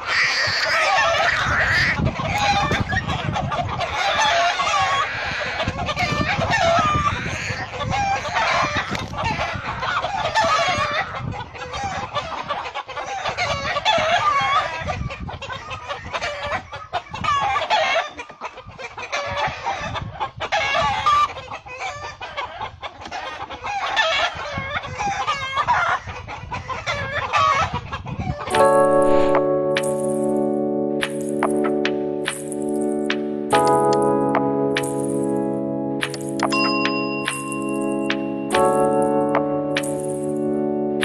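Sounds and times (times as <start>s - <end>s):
chickens clucking: 0.0s - 39.8s.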